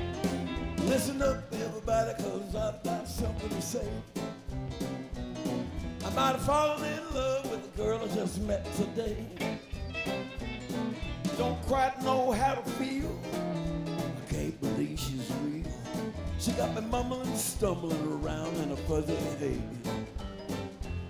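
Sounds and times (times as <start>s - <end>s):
fiddle melody: 0.0s - 2.1s, 4.6s - 21.0s
band with drums bass and guitar: 0.0s - 21.0s.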